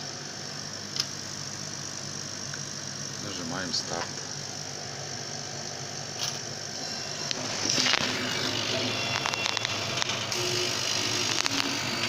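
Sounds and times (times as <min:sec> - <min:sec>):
extraction fan hum: 0:00.0 - 0:12.0
cutting head whirring with clicks: 0:00.9 - 0:01.2, 0:02.5 - 0:12.0.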